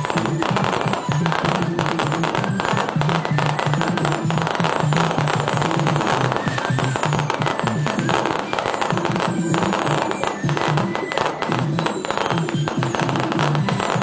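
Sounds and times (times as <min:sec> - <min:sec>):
fireworks cracking and popping: 0:00.0 - 0:14.0.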